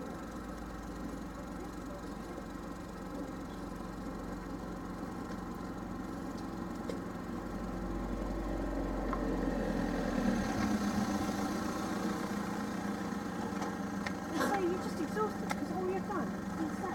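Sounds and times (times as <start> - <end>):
car engine idling: 0.0 - 16.9
vehicle engine approaching: 0.0 - 16.9.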